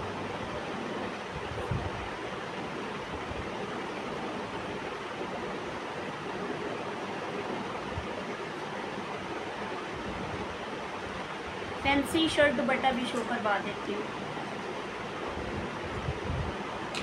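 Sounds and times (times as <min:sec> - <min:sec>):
steady rushing room noise: 0:00.0 - 0:17.0.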